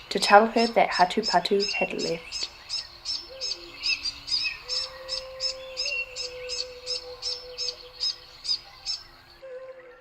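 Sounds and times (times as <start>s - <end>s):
small bird chirping: 0.0s - 9.4s.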